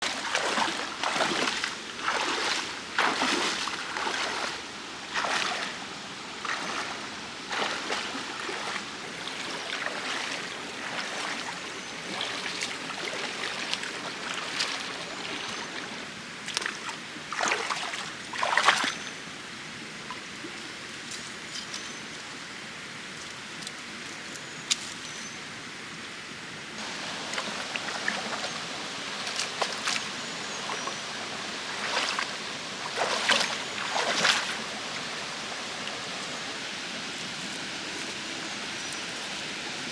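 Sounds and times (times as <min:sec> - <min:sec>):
water splashing and sloshing: 0:00.0 - 0:19.0, 0:26.8 - 0:39.9
mountain stream flowing: 0:00.0 - 0:24.2, 0:26.7 - 0:39.9.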